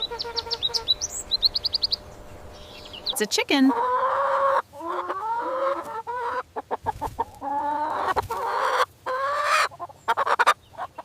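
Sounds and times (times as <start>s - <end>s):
chicken clucking and calling: 0.0s - 11.0s.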